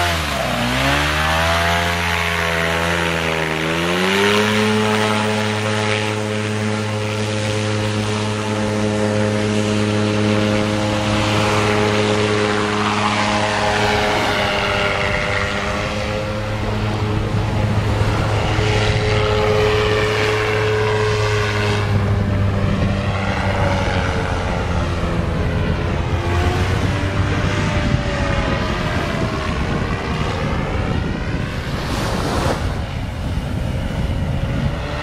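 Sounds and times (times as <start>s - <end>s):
boat engine and propeller revving: 0.0s - 35.0s.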